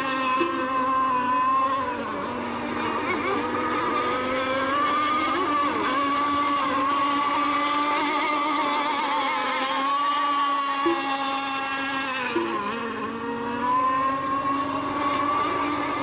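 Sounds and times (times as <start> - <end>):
model boat engines whining: 0.0 - 16.0.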